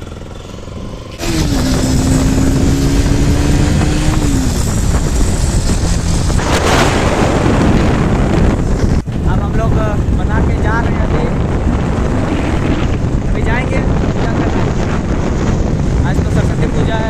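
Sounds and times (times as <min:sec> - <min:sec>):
motorcycle engine running: 0:00.0 - 0:16.1
rush of noise: 0:00.0 - 0:17.0.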